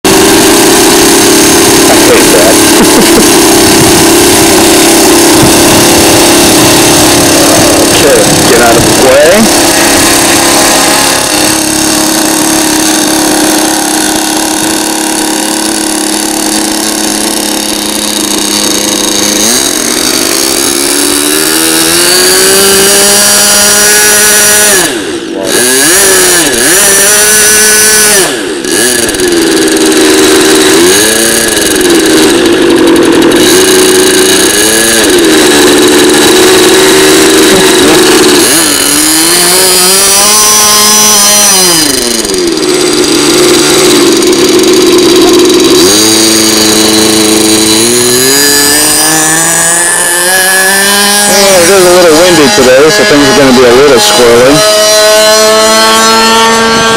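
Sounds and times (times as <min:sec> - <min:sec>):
model plane engine: 0:00.0 - 0:56.9.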